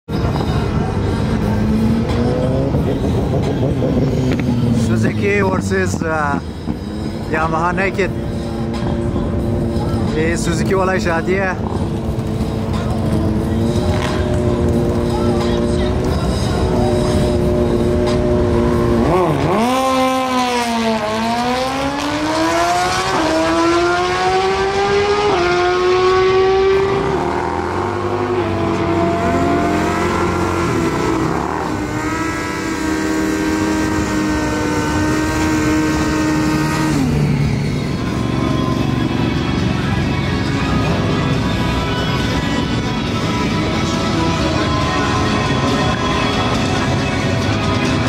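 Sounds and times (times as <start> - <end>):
motorcycle engine accelerating: 0.1 - 48.0
motorcycles passing: 0.1 - 48.0.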